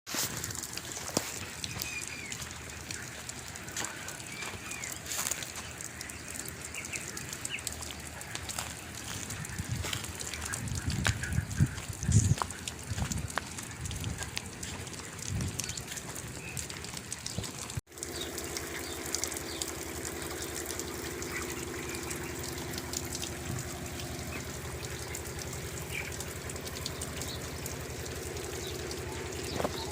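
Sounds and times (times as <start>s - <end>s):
water spray hissing: 0.1s - 29.9s.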